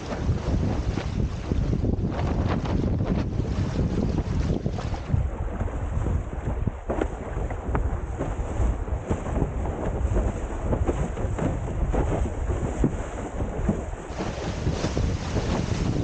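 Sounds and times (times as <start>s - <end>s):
water rushing: 0.0s - 16.0s
water slapping against hull: 0.0s - 16.0s
wind buffeting microphone: 0.0s - 16.0s.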